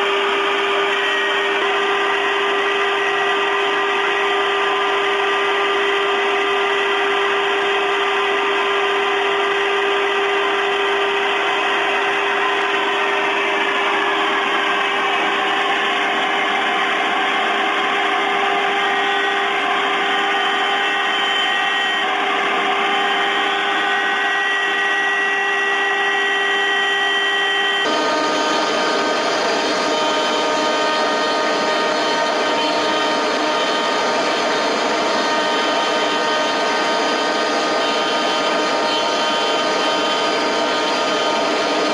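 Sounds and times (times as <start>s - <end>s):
milling machine spindle whine: 0.0s - 41.9s.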